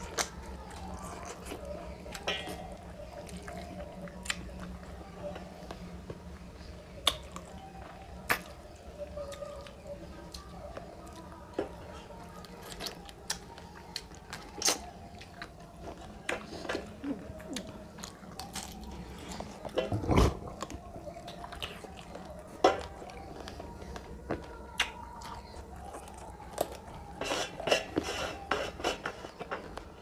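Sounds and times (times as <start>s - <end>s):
wet chewing: 0.0s - 5.8s, 7.0s - 30.0s.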